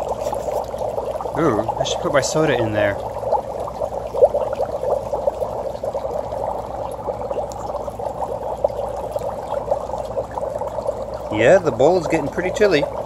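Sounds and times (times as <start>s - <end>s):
dry ice bubbling in water: 0.0s - 13.0s.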